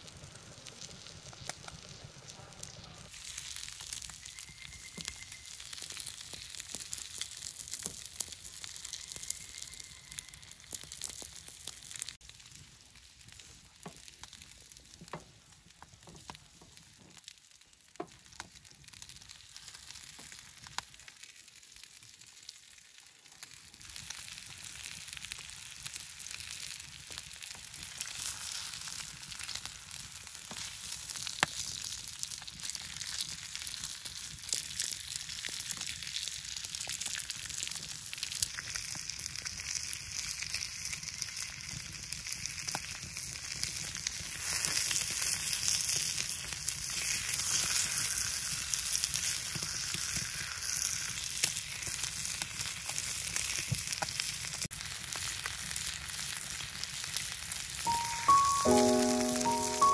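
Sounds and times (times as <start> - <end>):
ribs sizzling on a griddle: 0.0 - 12.2, 16.0 - 57.9.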